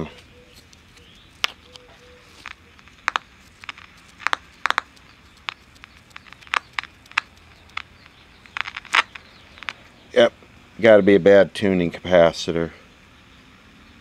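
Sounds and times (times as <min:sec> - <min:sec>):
radio static hiss and crackles: 0:00.0 - 0:13.0.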